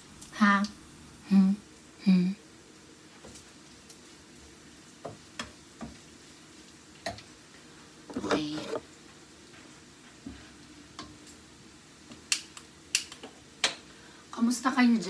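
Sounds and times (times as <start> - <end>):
bacon frying in a pan: 0.0 - 8.2, 8.8 - 15.0.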